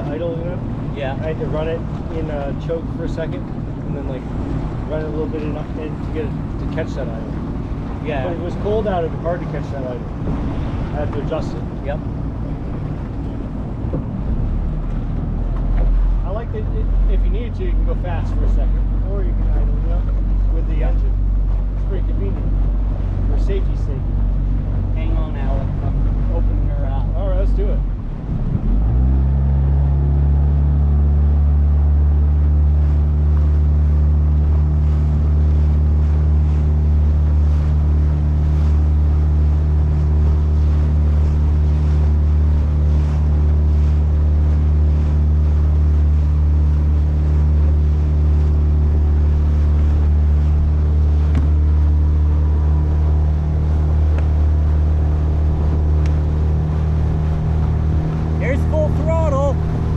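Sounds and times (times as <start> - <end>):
outboard motor droning: 0.0 - 59.9
water noise: 0.0 - 59.9.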